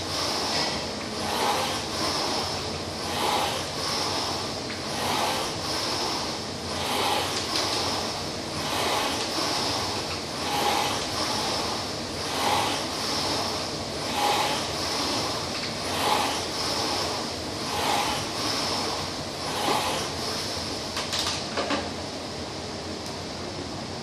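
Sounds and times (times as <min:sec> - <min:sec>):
rowing machine fan whooshing: 0:00.0 - 0:24.0.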